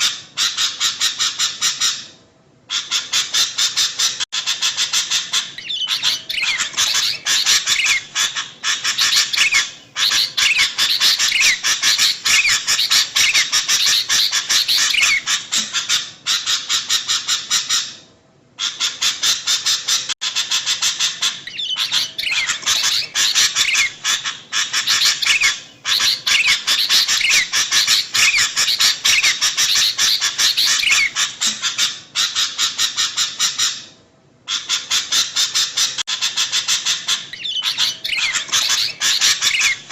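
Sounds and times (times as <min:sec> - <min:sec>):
bulbul chattering calls: 0:02.7 - 0:17.9, 0:18.6 - 0:33.8, 0:34.5 - 0:39.9.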